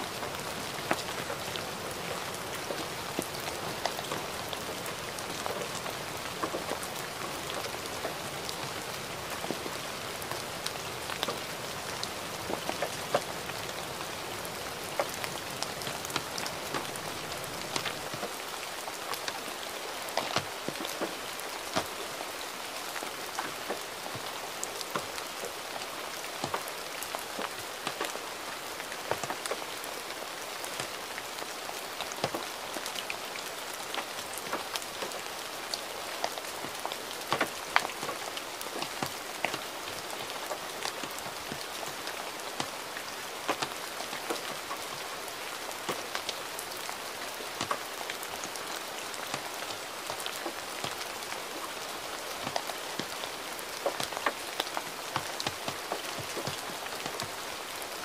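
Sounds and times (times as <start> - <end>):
gentle rain hiss: 0.0 - 58.0
raindrops tapping: 0.1 - 28.3, 36.1 - 58.0.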